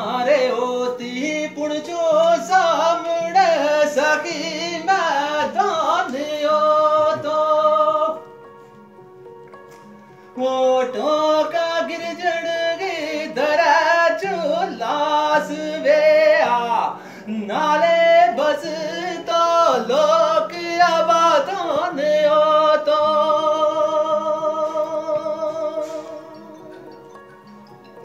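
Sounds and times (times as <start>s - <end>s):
man singing unaccompanied: 0.0s - 8.3s, 10.3s - 26.9s.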